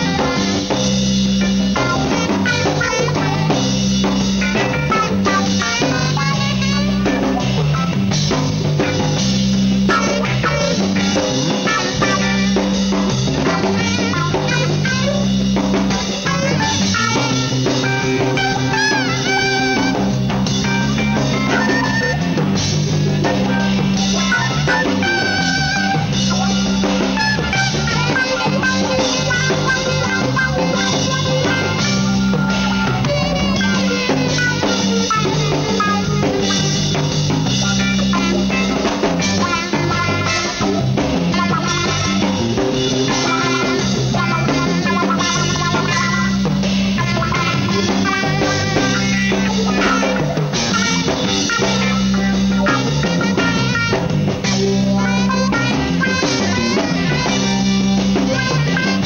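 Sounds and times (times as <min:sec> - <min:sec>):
bass guitar: 0:00.0 - 0:59.0
drum kit: 0:00.0 - 0:59.0
saxophone melody: 0:00.0 - 0:59.0.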